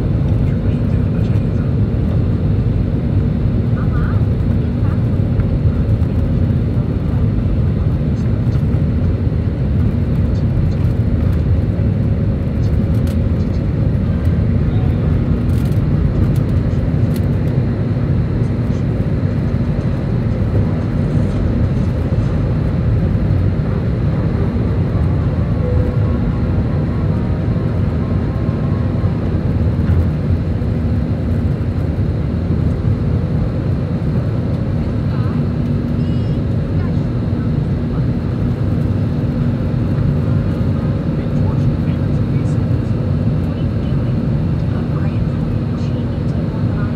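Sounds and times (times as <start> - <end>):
jet engine and airflow noise: 0.0 - 46.9.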